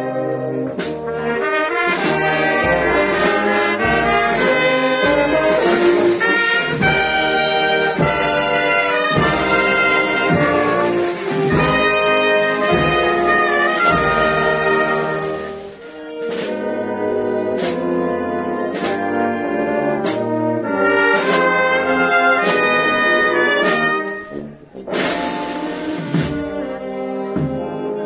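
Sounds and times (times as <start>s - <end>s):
brass band playing a slow march: 0.0s - 28.0s.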